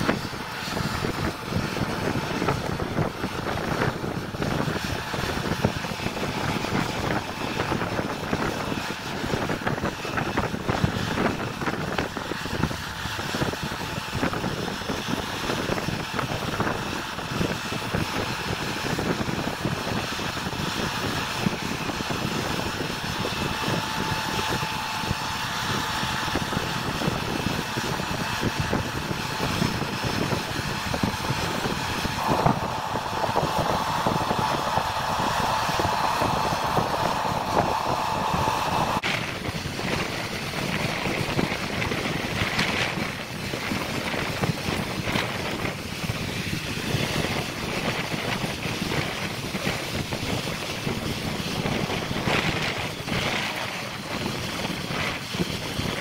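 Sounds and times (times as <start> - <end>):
combine harvester running: 0.0 - 56.0
faint steady whine: 0.0 - 56.0.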